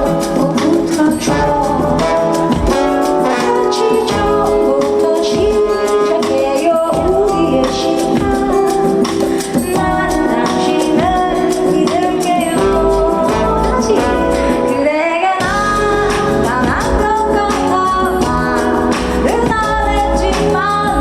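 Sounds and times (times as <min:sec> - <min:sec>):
live pop band: 0:00.0 - 0:21.0
woman singing: 0:00.0 - 0:21.0.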